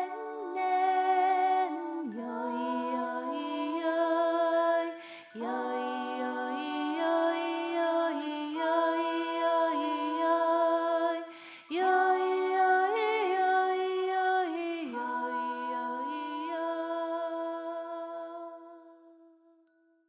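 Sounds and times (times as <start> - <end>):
soft wordless vocal music: 0.0 - 20.0.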